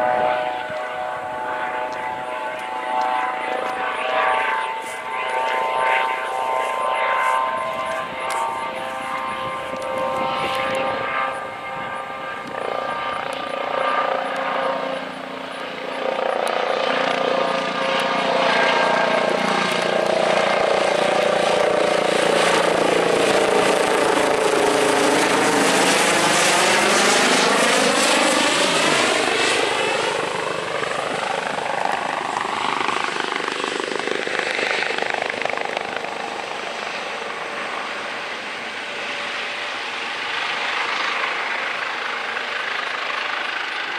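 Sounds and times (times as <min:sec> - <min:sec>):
helicopter rotor beat: 0:00.0 - 0:43.9
helicopter tail fan whine: 0:00.0 - 0:43.9.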